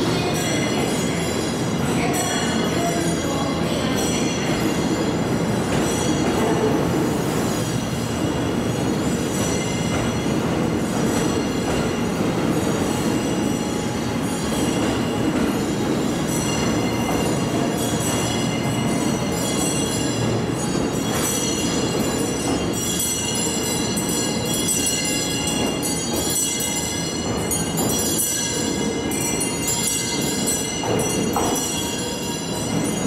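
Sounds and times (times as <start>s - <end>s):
train wheels squealing on rails: 0.0s - 33.0s.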